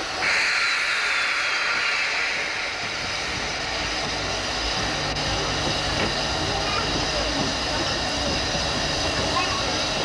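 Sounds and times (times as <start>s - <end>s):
low rumble of moving train: 0.0s - 10.0s
steam hissing loudly: 0.0s - 10.0s.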